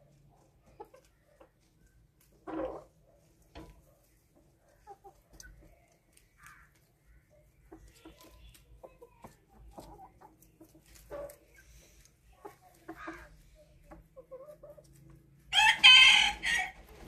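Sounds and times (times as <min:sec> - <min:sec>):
hens clucking: 0:00.0 - 0:17.0
rabbits chewing leaves: 0:00.0 - 0:17.0.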